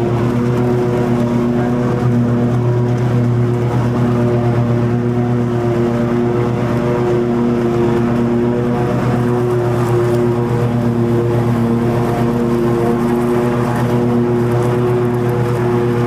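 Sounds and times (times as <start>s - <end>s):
riding mower engine hum: 0.0s - 16.0s.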